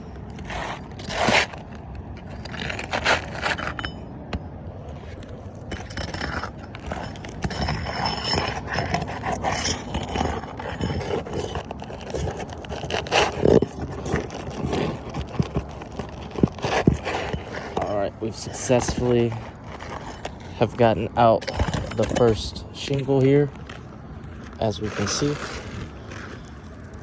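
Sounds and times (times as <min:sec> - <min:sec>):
roof tool scraping under shingles: 0:00.0 - 0:04.0, 0:04.8 - 0:27.0.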